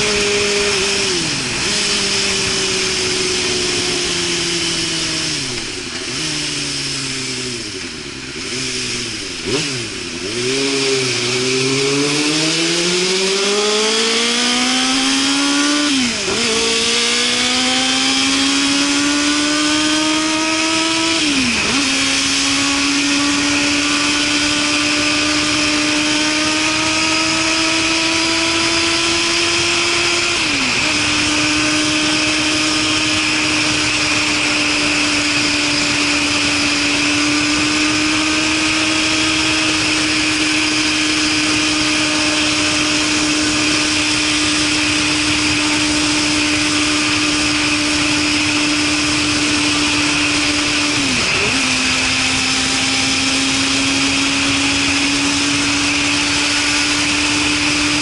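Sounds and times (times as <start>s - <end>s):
motorcycle engine cruising: 0.0s - 58.0s
rushing wind noise: 0.0s - 58.0s.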